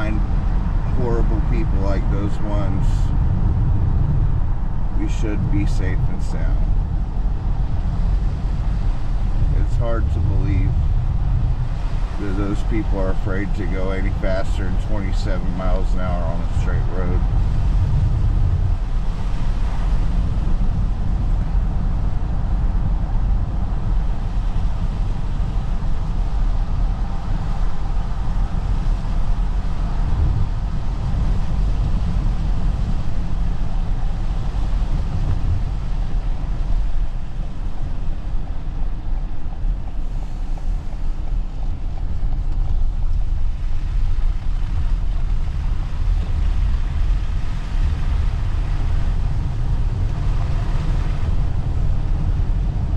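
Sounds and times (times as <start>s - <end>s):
tyre and road noise in car cabin: 0.0s - 52.9s.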